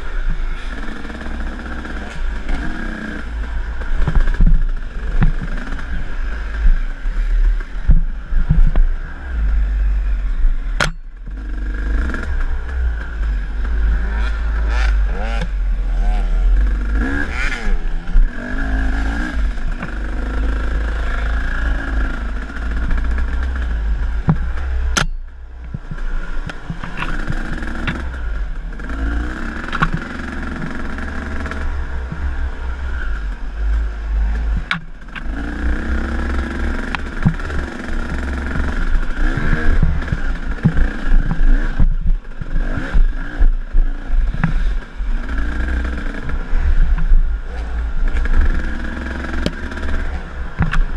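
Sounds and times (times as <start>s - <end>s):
dirt bike engine revving: 0.0s - 50.9s
wind rumble on microphone: 0.0s - 50.9s.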